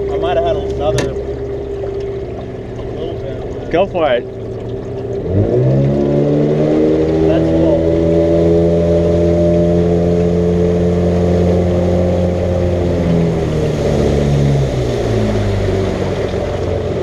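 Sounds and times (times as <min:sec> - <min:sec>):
outboard motor at full throttle: 0:00.0 - 0:17.0.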